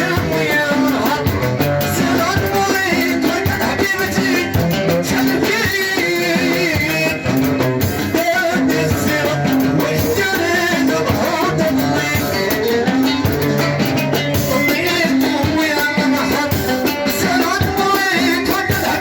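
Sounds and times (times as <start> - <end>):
band playing over a steady beat: 0.0 - 19.0
person singing: 0.0 - 19.0.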